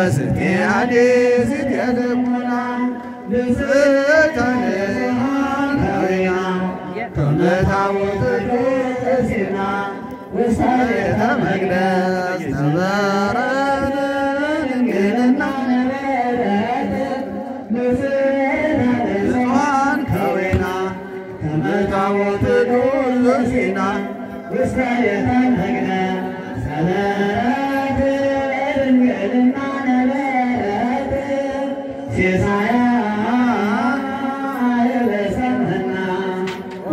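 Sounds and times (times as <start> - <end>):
man chanting through loudspeaker: 0.0 - 36.9.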